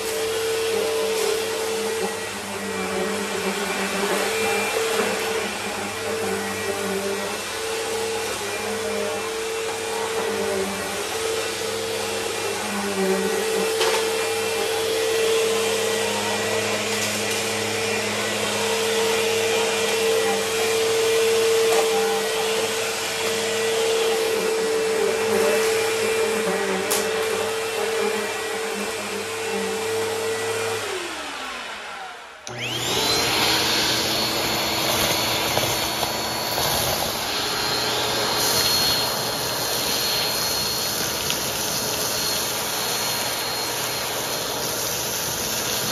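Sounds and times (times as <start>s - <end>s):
upright vacuum cleaner running: 0.0s - 45.9s
vacuum cleaner high-pitched whine: 0.0s - 45.9s
vacuum cleaner winding down: 0.0s - 45.9s.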